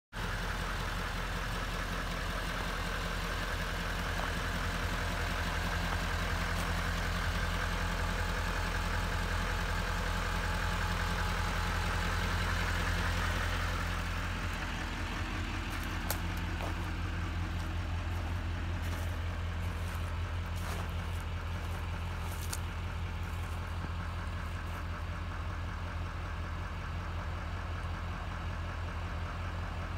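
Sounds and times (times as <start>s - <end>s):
pickup engine idling: 0.1s - 29.9s.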